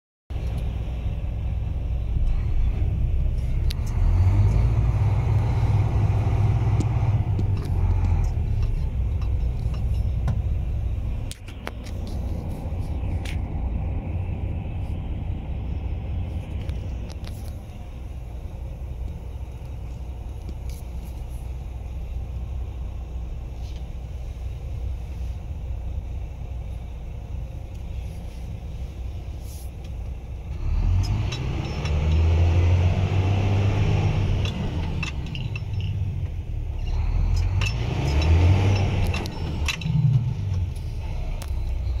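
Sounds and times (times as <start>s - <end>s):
truck diesel engine idling and revving: 0.3s - 42.0s.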